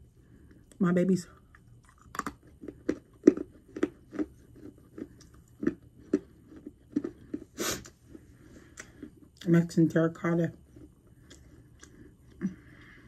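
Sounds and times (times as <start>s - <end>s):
chewing crunches: 1.4s - 9.4s, 10.5s - 13.0s.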